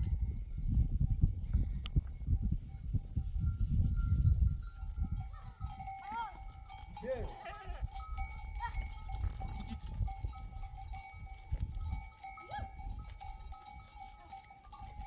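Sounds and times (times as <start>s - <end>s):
livestock bells ringing: 0.0s - 15.0s.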